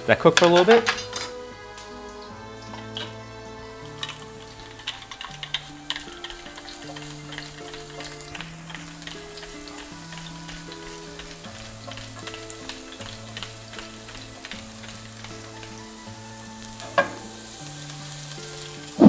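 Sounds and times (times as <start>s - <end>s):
garlic sizzling in oil: 0.0s - 19.0s
soft background music: 0.0s - 19.0s.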